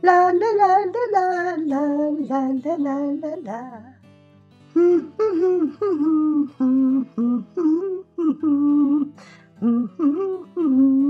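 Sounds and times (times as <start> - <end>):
person singing wordless tune: 0.0 - 4.0, 4.7 - 11.0.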